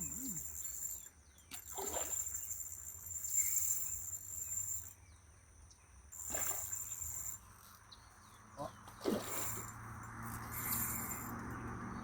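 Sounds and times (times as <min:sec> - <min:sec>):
insects trilling: 0:00.0 - 0:09.8.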